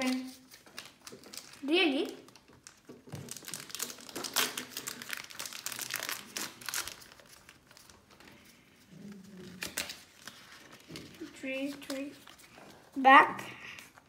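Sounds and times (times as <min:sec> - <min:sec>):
foil wrapper crinkling: 0:00.0 - 0:12.9.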